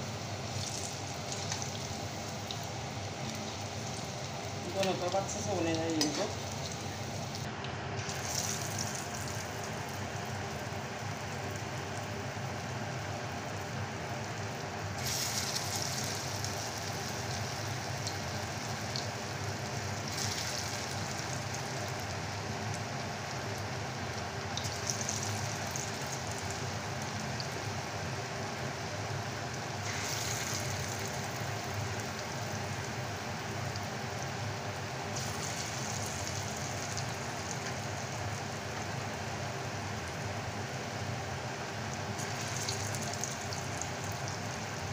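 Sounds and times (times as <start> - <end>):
oil sizzling while deep-frying: 0.0 - 44.9.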